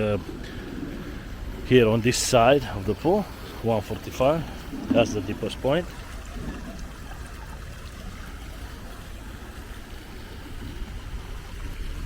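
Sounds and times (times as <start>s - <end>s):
low even rumble: 0.0s - 12.0s
pool water trickling: 0.0s - 12.0s.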